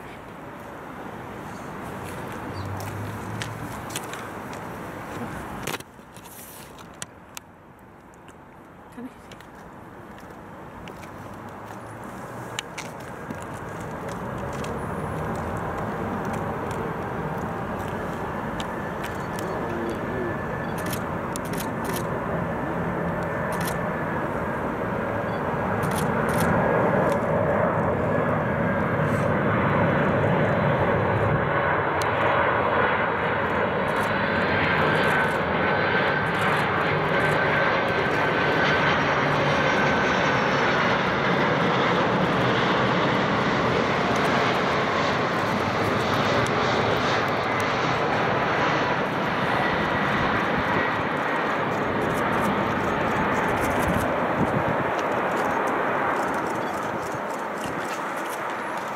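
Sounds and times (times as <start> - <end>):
jet engines rumbling and whining: 0.0 - 58.9.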